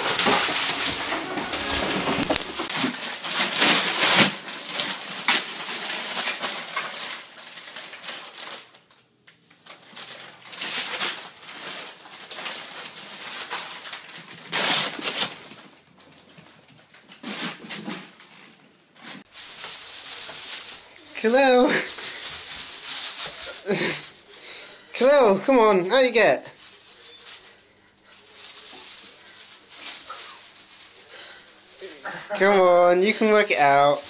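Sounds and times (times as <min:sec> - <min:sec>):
plastic bag crinkling: 0:00.0 - 0:17.4, 0:18.0 - 0:34.0.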